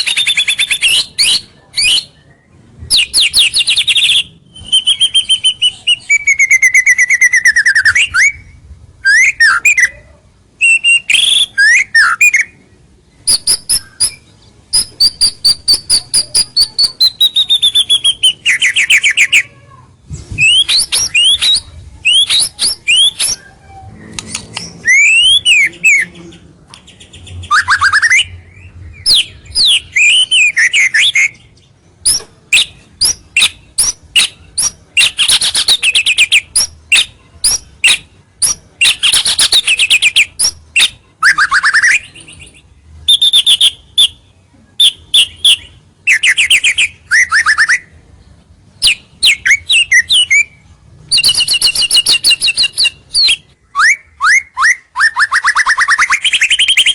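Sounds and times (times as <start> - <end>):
shama bird singing: 0.0 - 56.9.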